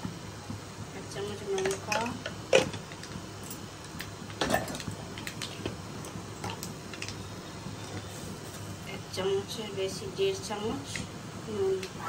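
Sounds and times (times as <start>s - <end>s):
chillies sizzling in hot oil: 0.1s - 12.0s.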